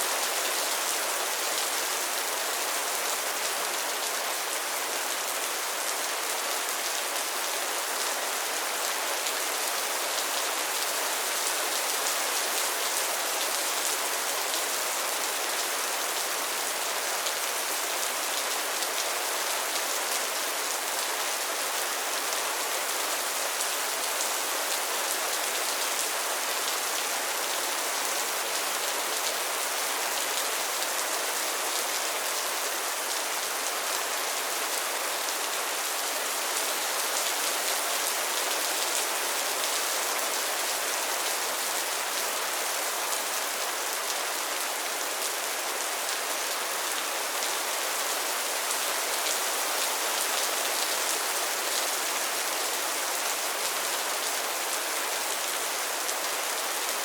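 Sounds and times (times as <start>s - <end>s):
rain falling on pond water: 0.0s - 57.0s.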